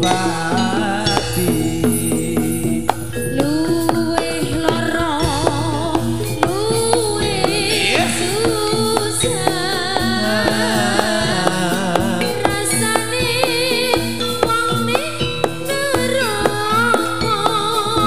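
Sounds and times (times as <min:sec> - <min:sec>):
person singing: 0:00.0 - 0:18.0
steady drum strokes: 0:00.0 - 0:18.0
struck metallophone notes: 0:00.0 - 0:18.0
sustained tones: 0:00.0 - 0:18.0.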